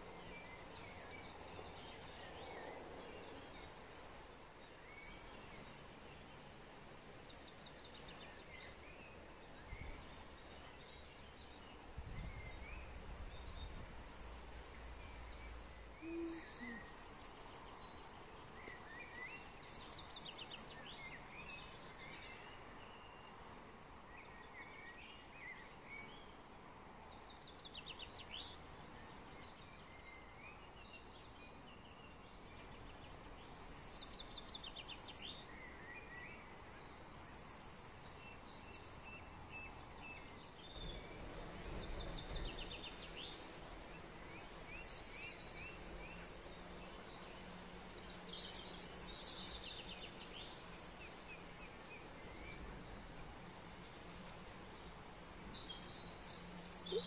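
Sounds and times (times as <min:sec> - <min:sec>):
songbirds singing and calling: 0:00.0 - 0:57.0
steady background hiss: 0:00.0 - 0:57.0.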